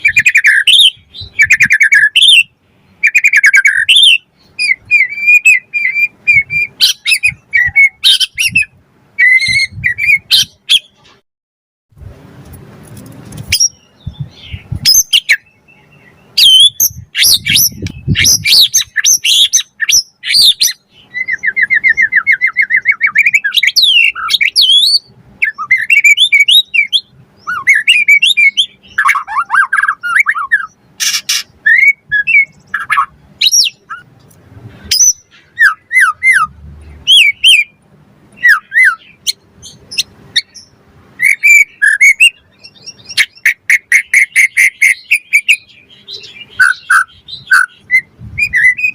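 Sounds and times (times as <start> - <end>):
songbird singing whistles and trills: 0.0 - 11.0, 13.5 - 34.1, 34.8 - 48.9.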